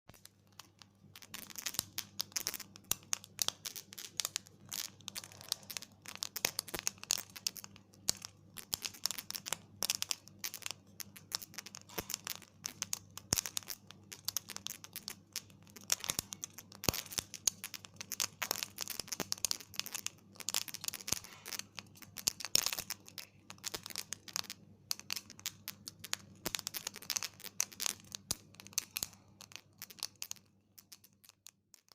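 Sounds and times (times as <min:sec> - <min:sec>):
rice grains popping: 0:00.1 - 0:31.9.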